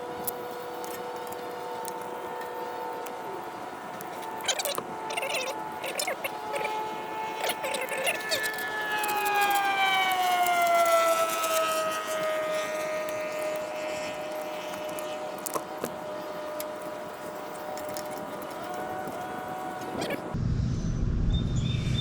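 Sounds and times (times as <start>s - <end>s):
loud siren-like whine: 0.0s - 22.0s.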